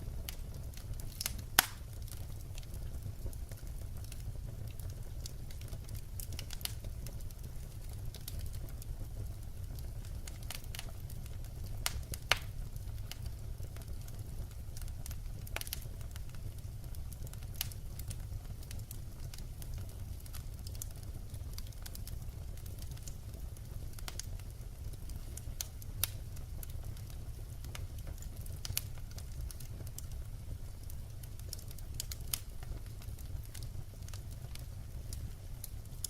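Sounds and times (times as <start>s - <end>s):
low fire rumble: 0.0s - 36.0s
wood fire crackling and popping: 0.0s - 36.0s.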